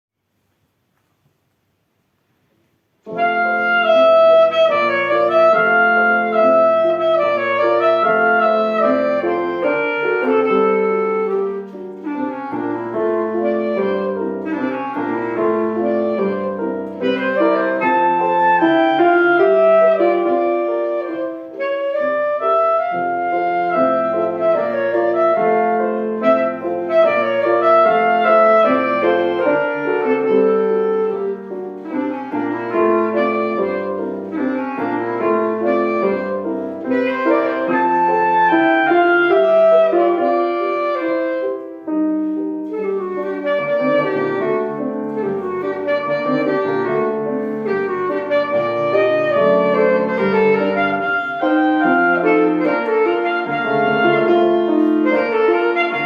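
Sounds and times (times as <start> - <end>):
piano accompaniment: 0.2 - 56.0
wind instrument melody: 3.0 - 56.0.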